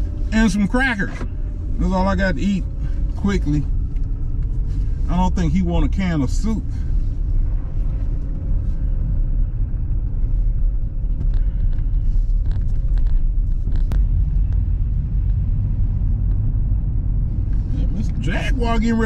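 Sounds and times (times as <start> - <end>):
car driving low rumble: 0.0 - 19.0.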